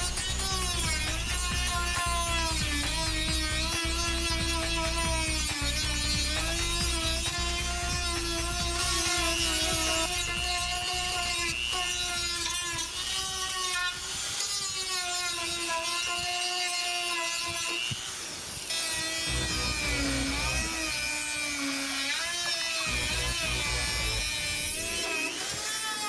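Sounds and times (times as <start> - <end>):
small power tool whining: 0.0 - 26.0.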